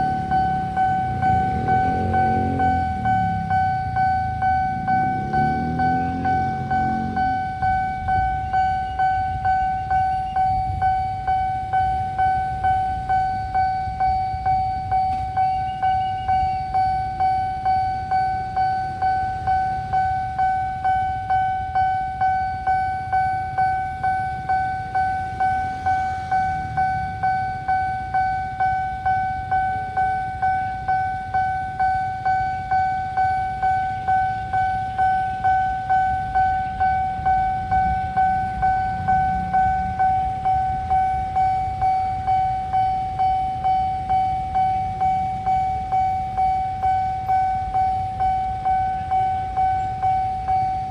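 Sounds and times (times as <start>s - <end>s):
level crossing electronic bell: 0.0s - 50.9s.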